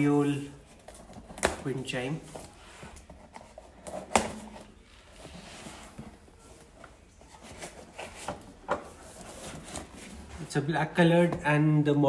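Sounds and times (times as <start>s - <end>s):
cardboard rustling: 0.0s - 11.4s.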